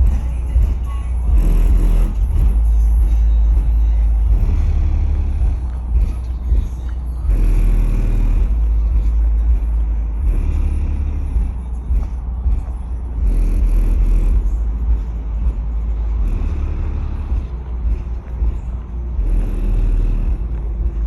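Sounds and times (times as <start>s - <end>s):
faint music: 0.0s - 21.0s
subwoofers playing deep bass: 0.0s - 21.0s.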